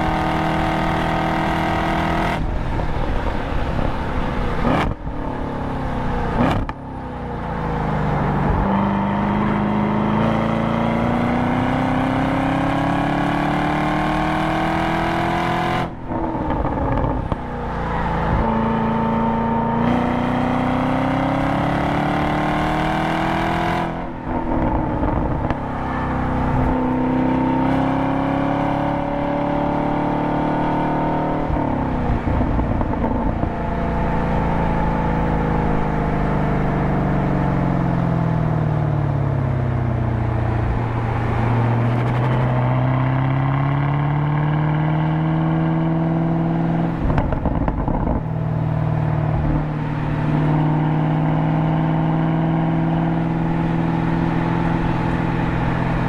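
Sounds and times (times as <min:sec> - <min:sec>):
car engine under hard driving: 0:00.0 - 0:56.0.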